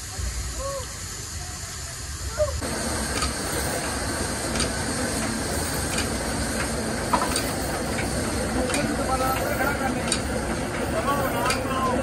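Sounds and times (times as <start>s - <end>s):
sawmill machinery rumble and hum: 2.0s - 12.0s.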